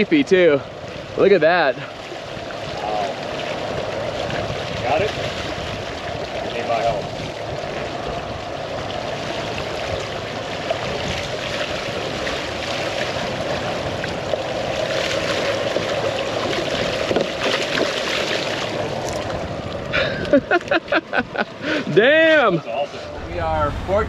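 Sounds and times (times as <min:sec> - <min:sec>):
outboard motors droning: 0:00.0 - 0:24.0
wake water rushing: 0:00.0 - 0:24.0.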